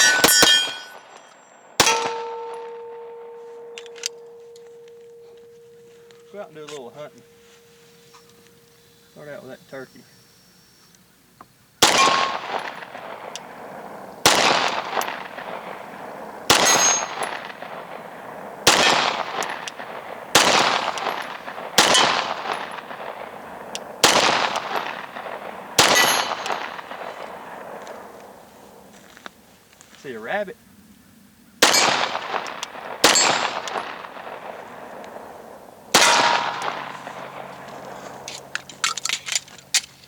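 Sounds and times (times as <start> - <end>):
pistol shots with echo: 0.0 - 9.0, 11.8 - 28.9, 31.6 - 39.8.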